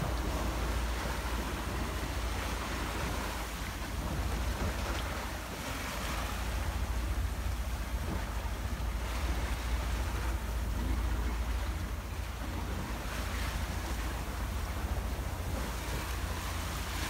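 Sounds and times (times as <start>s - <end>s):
water rushing past hull: 0.0s - 17.0s
wind rumble on microphone: 0.0s - 17.0s.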